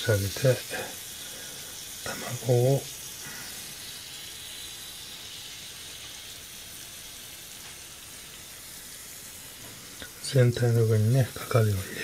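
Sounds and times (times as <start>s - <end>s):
stew sizzling in a pan: 0.0s - 12.0s.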